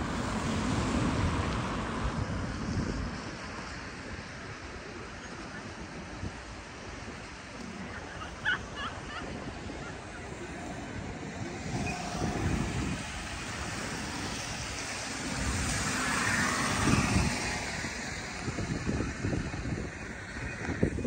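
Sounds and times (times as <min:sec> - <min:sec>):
tyres hissing on wet road: 0:00.0 - 0:20.9
bus engine hum: 0:00.0 - 0:21.0.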